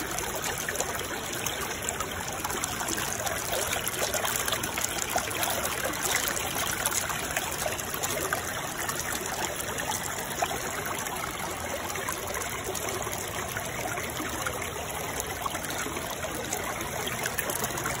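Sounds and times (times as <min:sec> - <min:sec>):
trickling running water: 0:00.0 - 0:18.0.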